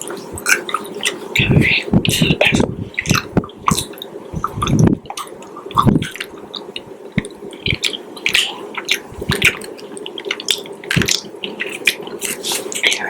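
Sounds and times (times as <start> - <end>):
wet chewing clicks: 0.0 - 13.0.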